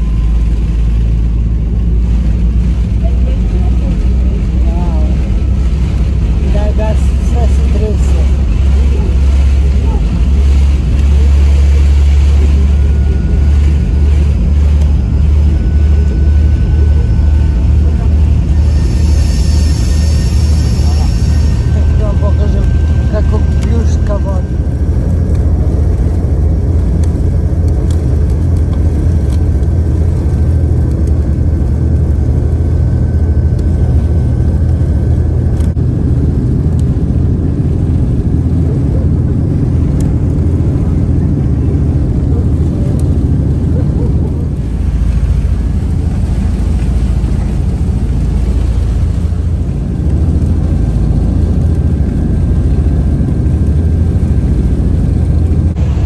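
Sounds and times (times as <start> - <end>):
ferry engines low drone: 0.0 - 56.0.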